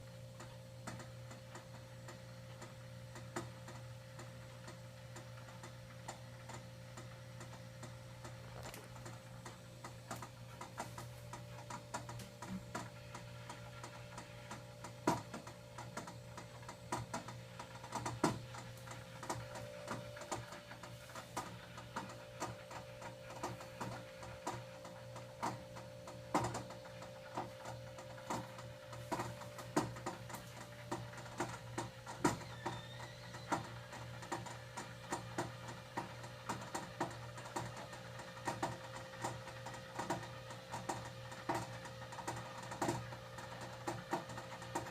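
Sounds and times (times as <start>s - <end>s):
water cooler humming: 0.0s - 44.9s
ticking and clicking: 0.4s - 44.9s.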